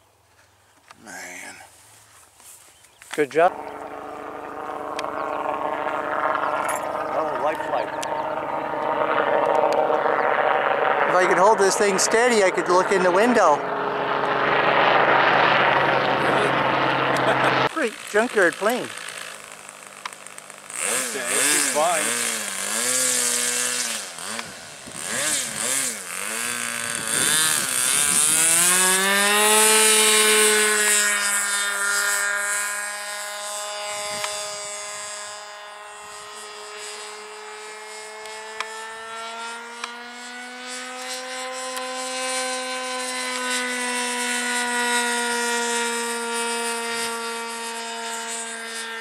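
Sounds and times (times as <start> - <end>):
model plane engine buzzing: 3.1 - 49.0.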